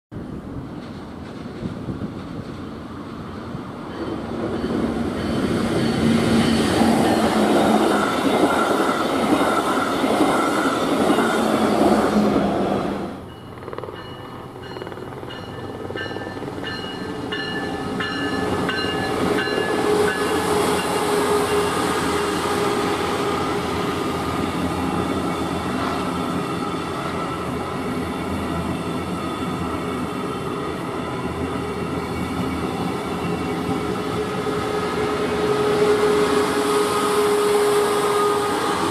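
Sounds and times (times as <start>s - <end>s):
passenger train passing: 0.1s - 38.9s
train wheels on rails: 0.2s - 38.9s.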